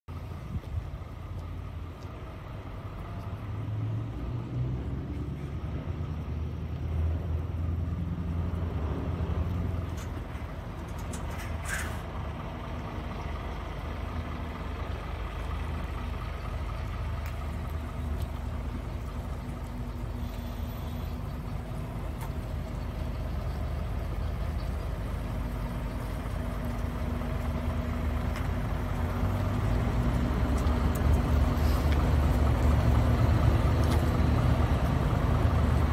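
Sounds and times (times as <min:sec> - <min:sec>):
truck diesel engine running: 0:00.1 - 0:35.9.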